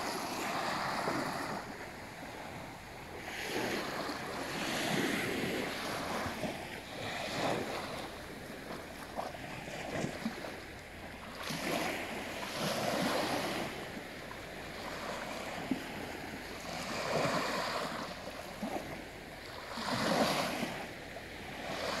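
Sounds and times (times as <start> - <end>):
small waves washing onto beach: 0.0 - 22.0.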